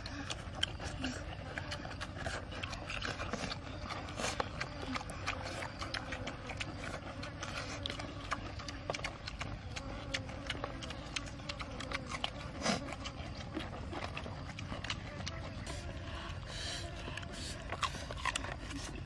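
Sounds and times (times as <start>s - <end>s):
person chewing and smacking: 0.0s - 19.0s.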